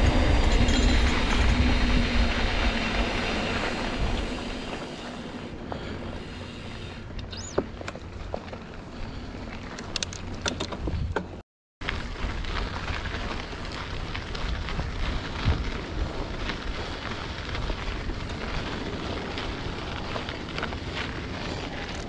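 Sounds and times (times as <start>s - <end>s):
bike rattling and clicking: 0.0s - 22.0s
bike tyres rolling over gravel: 0.0s - 22.0s
wind rumbling on microphone: 0.0s - 22.0s.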